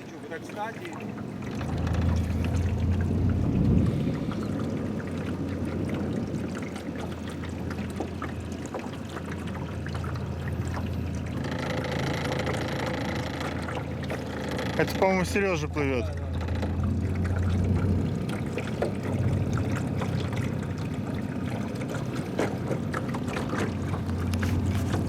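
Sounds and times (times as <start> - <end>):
outboard motor humming: 0.0 - 25.0
water washing along hull: 0.0 - 25.0.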